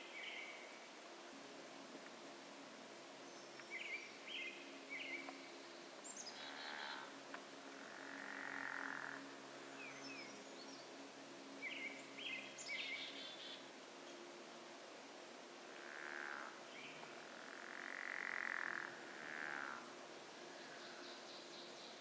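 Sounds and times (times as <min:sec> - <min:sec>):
songbird singing: 0:00.0 - 0:00.9, 0:03.2 - 0:14.4, 0:15.7 - 0:22.0.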